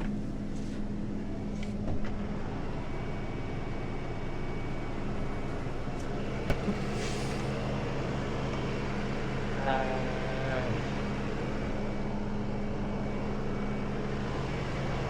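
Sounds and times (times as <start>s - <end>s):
tow truck engine running: 0.0s - 15.0s.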